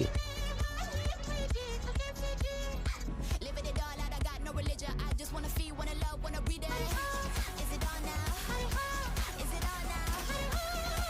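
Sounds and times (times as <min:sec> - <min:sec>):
pop music with vocals: 0:00.0 - 0:11.0.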